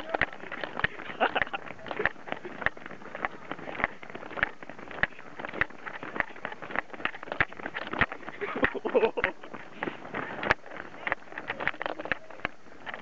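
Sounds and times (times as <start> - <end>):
running footsteps on pavement: 0.0 - 13.0.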